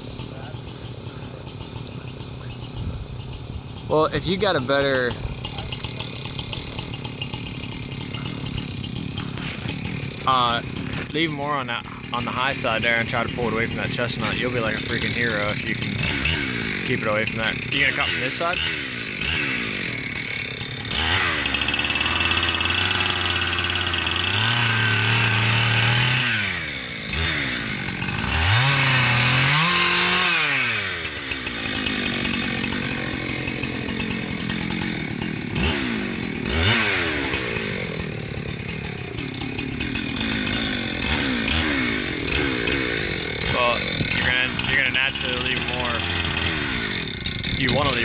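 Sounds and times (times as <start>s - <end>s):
chainsaw engine revving: 0.0s - 48.0s.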